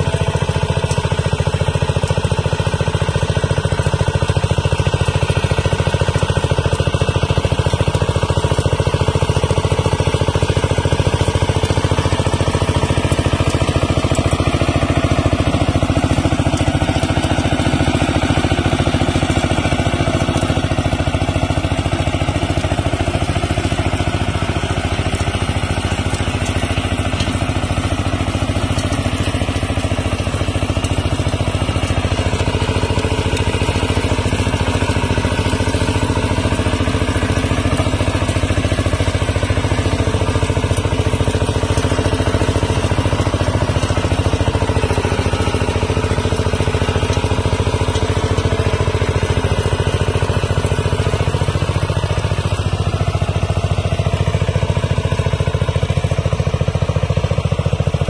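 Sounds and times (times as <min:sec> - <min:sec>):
diesel engine running under load: 0:00.0 - 0:58.0
rotary tiller churning dry soil: 0:00.0 - 0:58.0.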